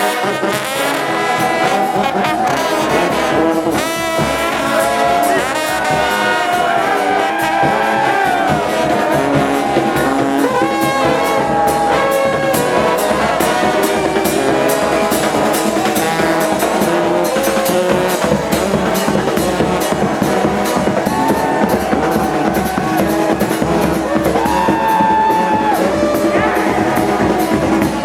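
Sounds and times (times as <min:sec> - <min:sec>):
steady drum beat: 0:00.0 - 0:28.0
trombones and trumpets: 0:00.0 - 0:28.0.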